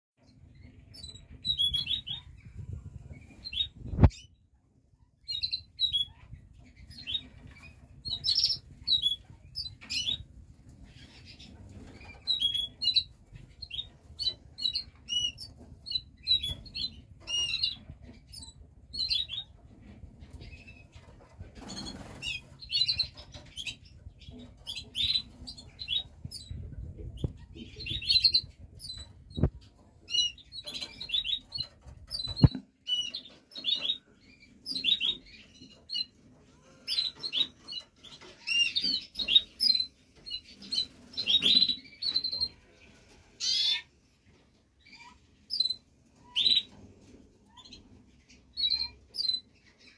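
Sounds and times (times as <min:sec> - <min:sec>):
canaries chirping: 0:00.2 - 0:49.9.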